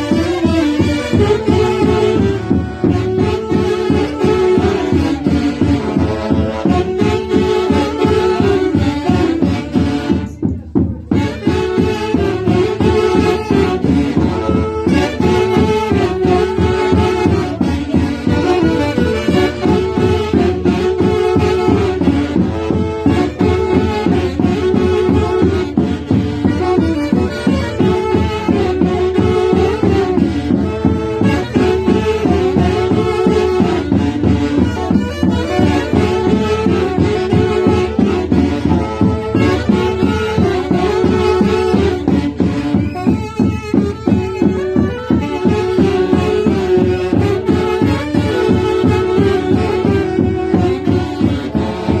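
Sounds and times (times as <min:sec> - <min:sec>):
folk band playing wind instruments: 0:00.0 - 0:52.0.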